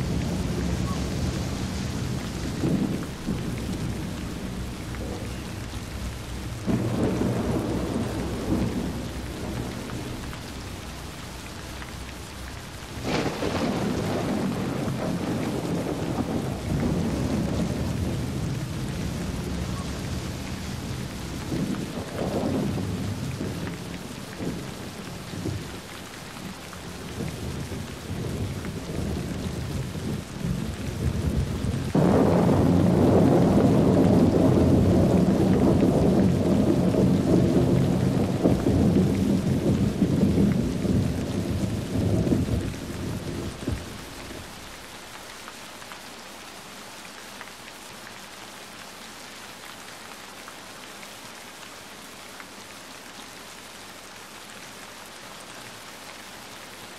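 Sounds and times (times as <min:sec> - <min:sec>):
heavy rain: 0:00.0 - 0:56.9
running floodwater: 0:00.0 - 0:56.9.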